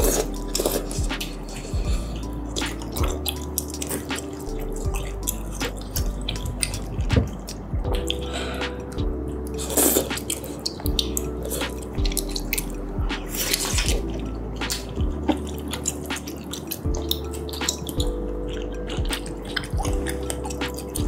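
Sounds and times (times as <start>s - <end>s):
soft background music: 0.0s - 21.0s
wet chewing and mouth smacks: 0.0s - 21.0s.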